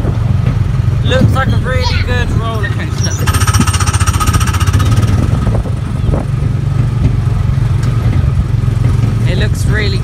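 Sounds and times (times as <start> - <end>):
small gasoline engine droning: 0.0 - 10.0.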